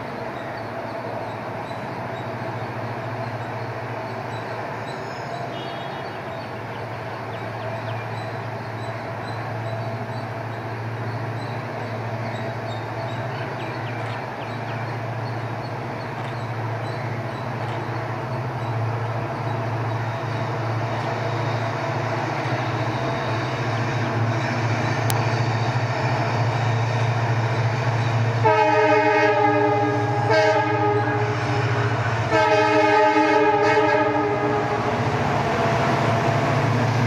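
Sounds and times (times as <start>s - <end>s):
locomotive diesel engine droning: 0.0s - 37.0s.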